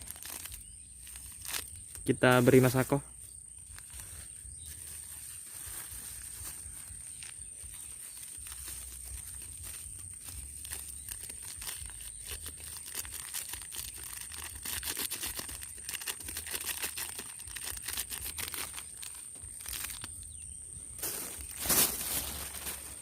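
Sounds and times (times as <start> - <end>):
plastic sachet tearing and crinkling: 0.0 - 20.4, 21.0 - 23.0.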